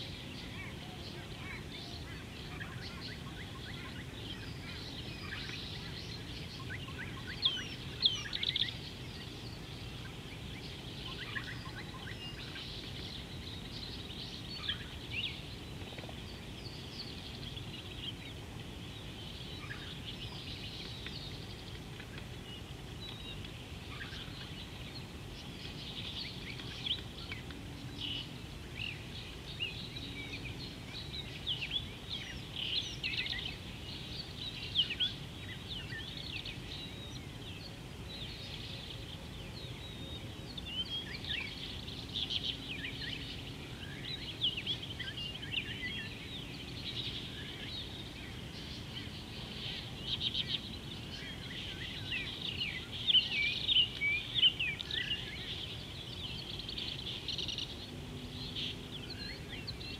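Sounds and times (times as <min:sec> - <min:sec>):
low background noise: 0:00.0 - 0:59.9
small birds chirping and trilling: 0:00.0 - 0:59.9.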